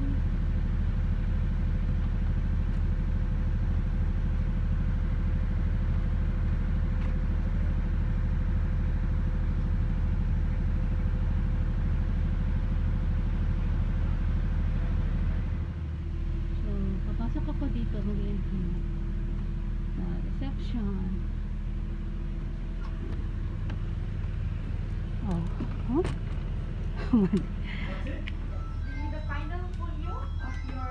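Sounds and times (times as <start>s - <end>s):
low engine hum: 0.0s - 30.9s.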